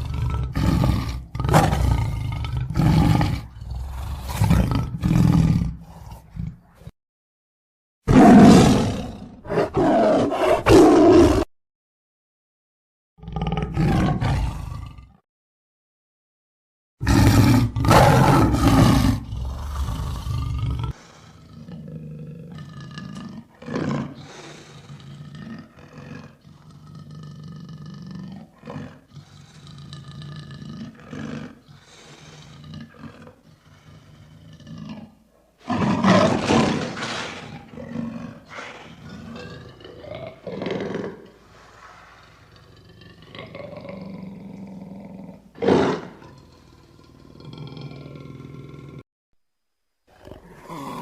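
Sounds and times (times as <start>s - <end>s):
lion roaring: 0.0s - 6.9s, 8.1s - 11.5s, 13.2s - 15.2s, 17.0s - 49.0s, 50.1s - 51.0s.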